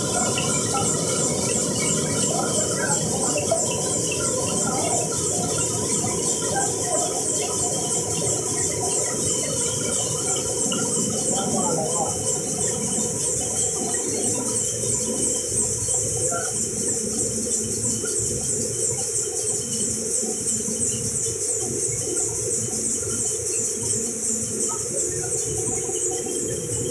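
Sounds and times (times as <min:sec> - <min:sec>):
fast regular ticking: 0:00.0 - 0:26.9
steady hum: 0:00.0 - 0:26.9.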